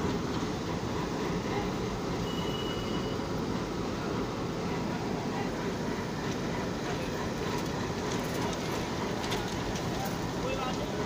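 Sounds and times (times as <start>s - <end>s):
diesel locomotive rolling past: 0.0s - 11.0s.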